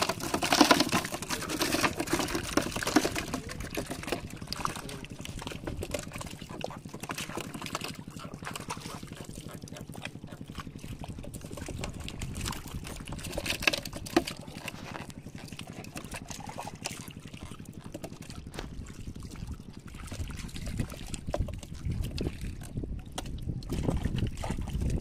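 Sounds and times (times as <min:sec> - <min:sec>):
hands squelching in wet mud: 0:00.0 - 0:25.0
trickling water: 0:00.0 - 0:25.0.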